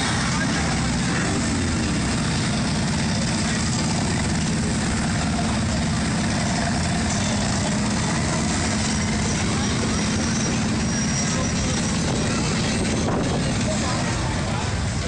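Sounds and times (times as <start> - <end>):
motorcycle engines low rumble: 0.0 - 15.0.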